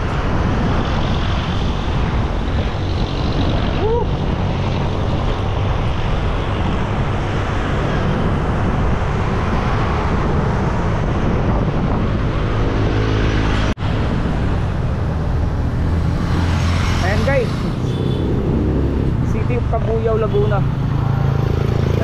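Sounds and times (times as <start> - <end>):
passing vehicle engine hum: 0.0 - 22.0
road traffic noise: 0.0 - 22.0
wind rush on microphone: 0.0 - 22.0.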